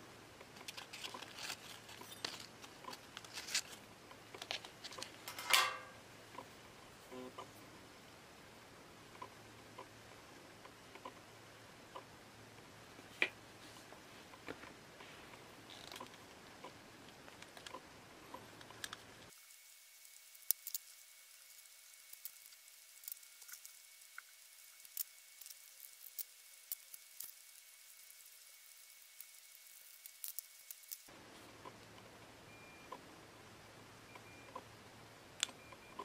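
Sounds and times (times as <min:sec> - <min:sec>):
faint steady whine: 0:00.0 - 0:36.0.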